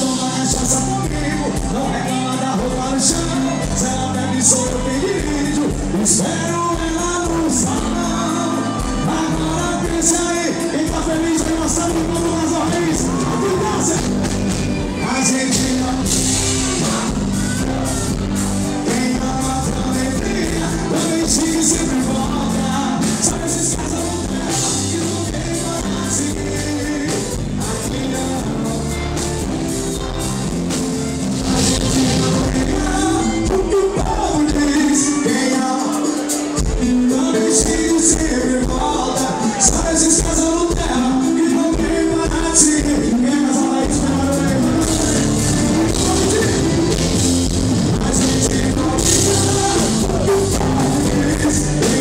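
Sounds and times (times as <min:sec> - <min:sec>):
live band music: 0:00.0 - 0:52.0
man singing into microphone: 0:00.0 - 0:52.0.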